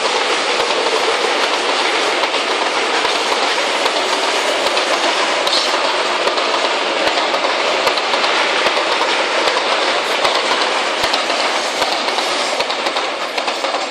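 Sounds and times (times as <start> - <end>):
rumble of wheels on rails: 0.0 - 13.9
wheels clacking over rail joints: 0.0 - 13.9.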